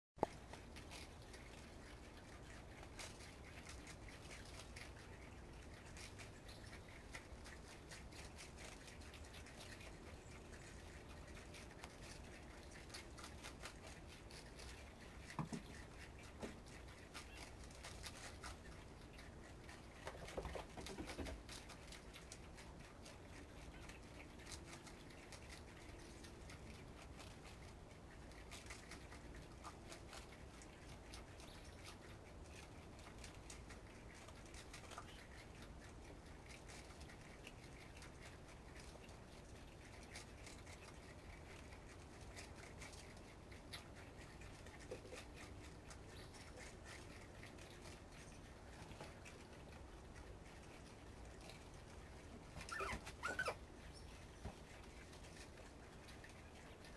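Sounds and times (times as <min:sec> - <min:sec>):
animals crunching lettuce: 0:00.2 - 0:56.9.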